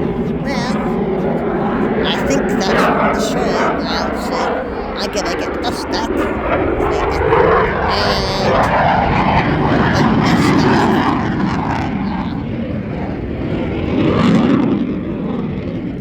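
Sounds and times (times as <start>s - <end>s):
airplane engine in flight: 0.0s - 16.0s.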